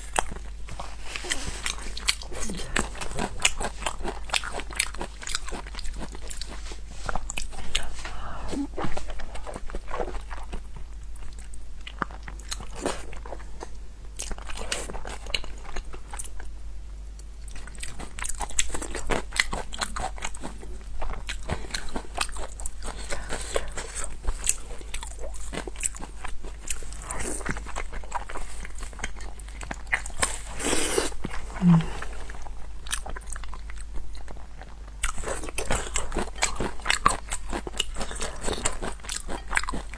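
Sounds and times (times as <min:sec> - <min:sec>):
crunchy chewing of food: 0:00.0 - 0:39.9.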